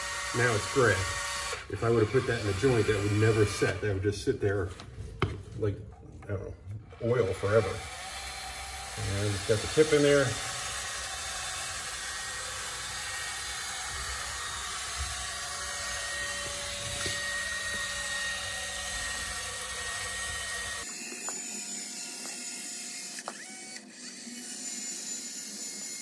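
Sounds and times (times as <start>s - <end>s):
dispensing gun motor whining: 0.0s - 4.2s, 6.9s - 26.0s.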